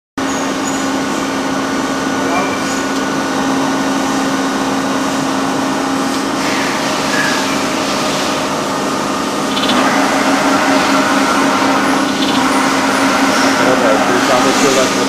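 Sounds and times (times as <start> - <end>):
machining centre humming: 0.2 - 15.0.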